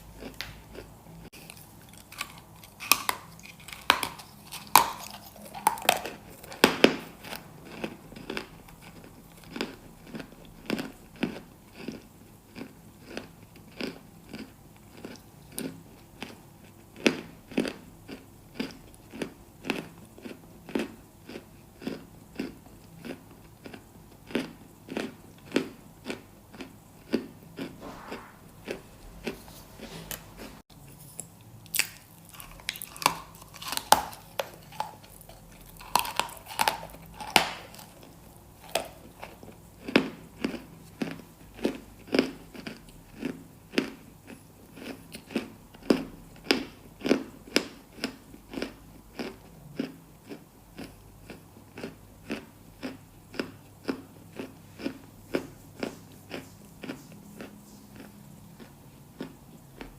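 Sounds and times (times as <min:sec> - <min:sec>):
crunching bites and chewing: 0:00.1 - 0:59.9.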